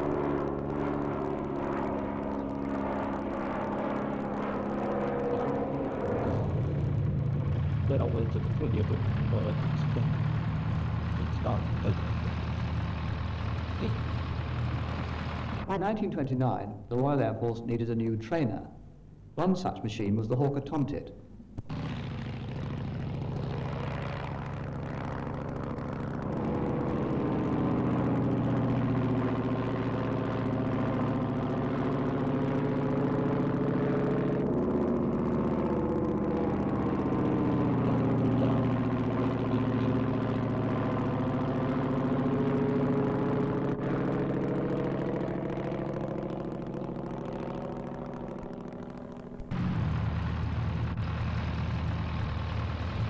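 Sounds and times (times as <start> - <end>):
radial aircraft engine running: 0.0 - 19.4, 20.0 - 53.0.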